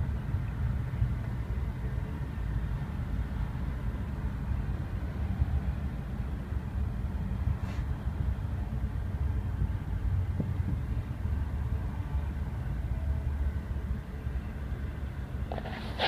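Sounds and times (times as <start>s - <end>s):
freight train low rumble: 0.0s - 16.0s.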